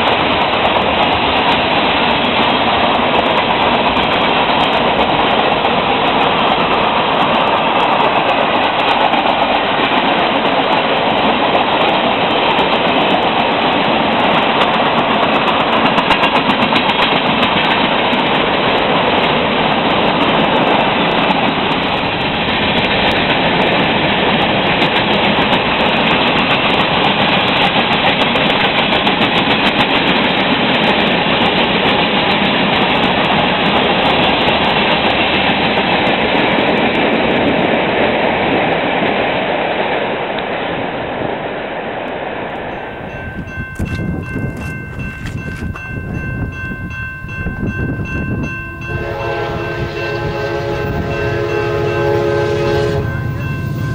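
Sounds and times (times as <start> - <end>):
freight train cars rolling past: 0.0 - 53.9.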